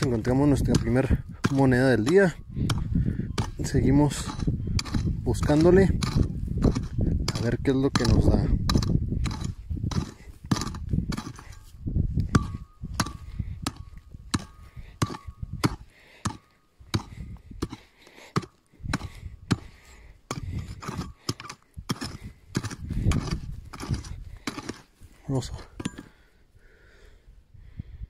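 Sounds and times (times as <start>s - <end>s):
pick striking stony soil: 0.0s - 26.2s.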